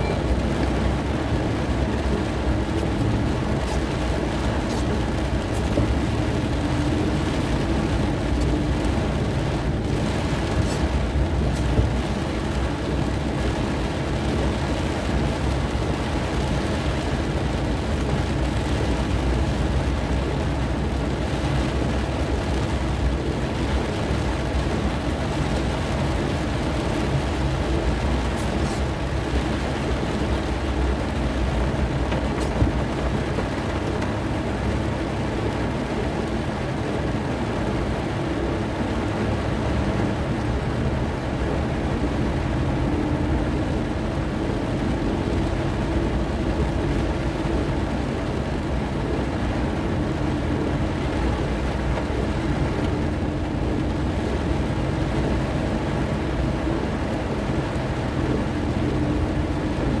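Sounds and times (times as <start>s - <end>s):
car engine and tyre rumble: 0.0s - 60.0s
rain on car body and windscreen: 0.0s - 60.0s.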